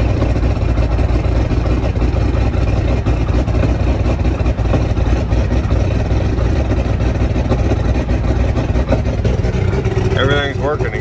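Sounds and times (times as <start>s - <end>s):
diesel engine idling rough: 0.0s - 11.0s.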